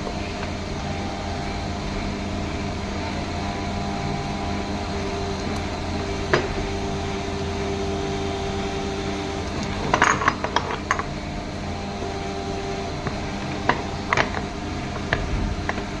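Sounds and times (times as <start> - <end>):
workshop machinery hum: 0.0 - 16.0.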